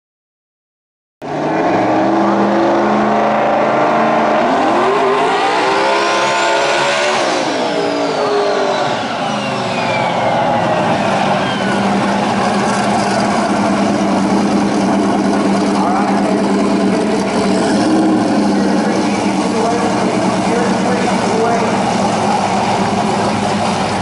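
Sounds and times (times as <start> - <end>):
drag car engine revving: 1.2 - 24.0
high whine: 2.0 - 24.0.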